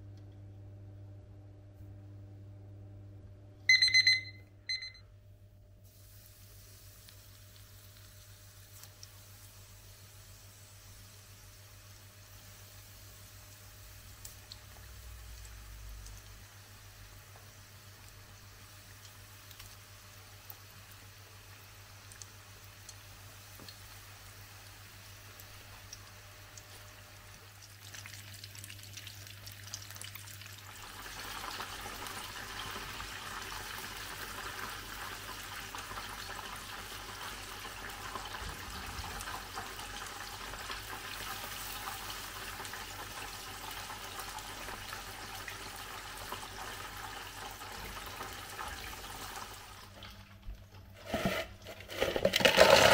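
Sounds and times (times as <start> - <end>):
chicken deep-frying in oil: 5.8 - 52.9.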